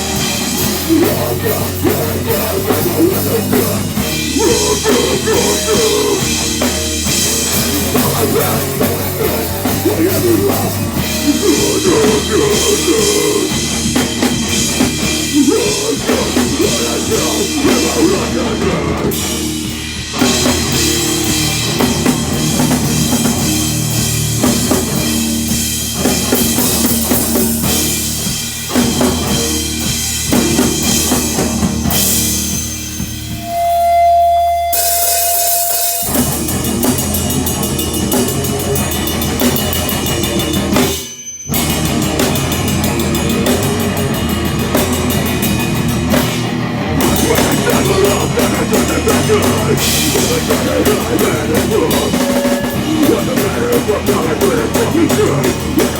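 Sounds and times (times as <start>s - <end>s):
drum kit with bass drum: 0.0s - 55.9s
heavy rock band playing: 0.0s - 55.9s.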